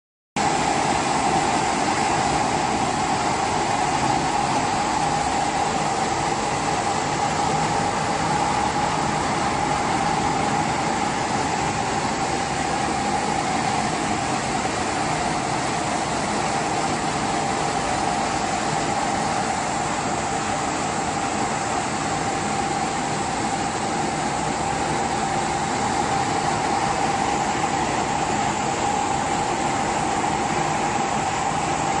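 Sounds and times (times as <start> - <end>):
washing machine hum and whine: 0.4 - 32.0.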